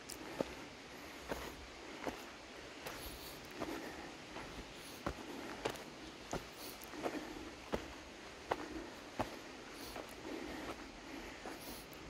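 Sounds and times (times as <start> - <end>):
footsteps on gravel trail: 0.0 - 12.0.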